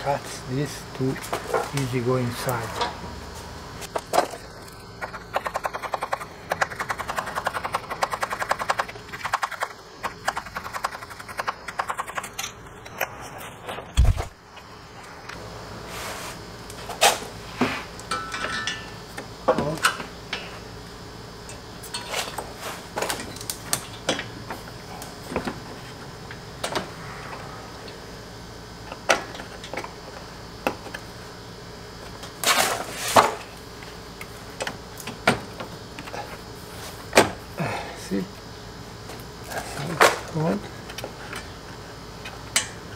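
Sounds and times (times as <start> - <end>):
steady background hum: 0.0 - 42.9.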